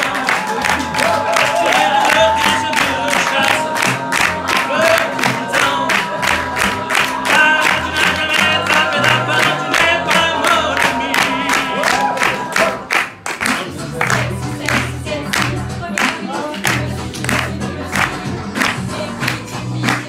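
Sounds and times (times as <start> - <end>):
crowd noise: 0.0 - 20.0.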